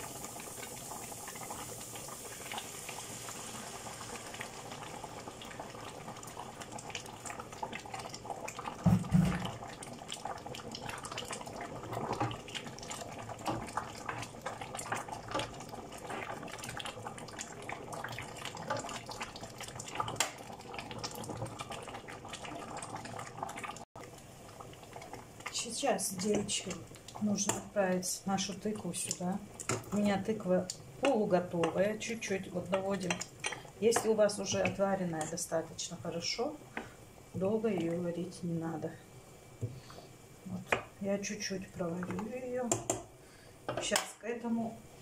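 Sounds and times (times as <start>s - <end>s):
vegetables sizzling in a pan: 0.0s - 45.0s.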